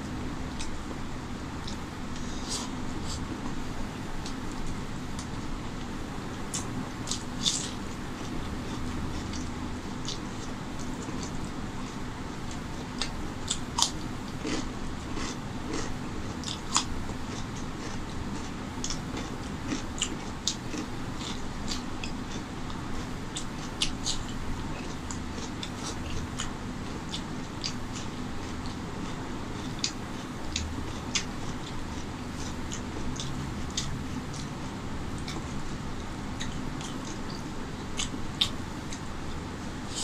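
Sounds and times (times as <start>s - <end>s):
low background hum: 0.0s - 40.0s
wet chewing and mouth clicks: 1.6s - 3.6s, 4.2s - 34.5s, 35.1s - 39.1s.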